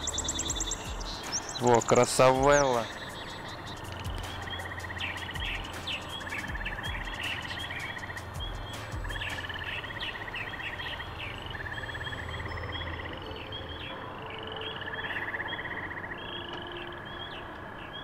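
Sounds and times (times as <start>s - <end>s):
frogs calling with rattling trills: 0.0s - 18.0s
frog chirps: 2.6s - 18.0s.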